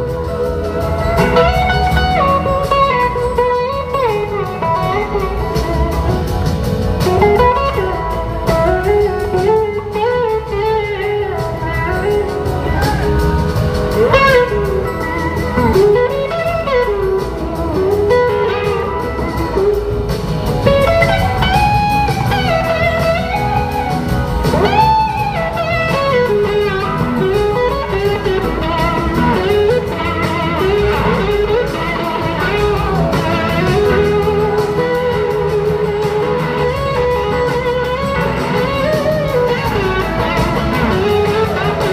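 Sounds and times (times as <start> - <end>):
blues-rock band playing: 0.0 - 41.9
electric slide guitar solo: 0.0 - 41.9.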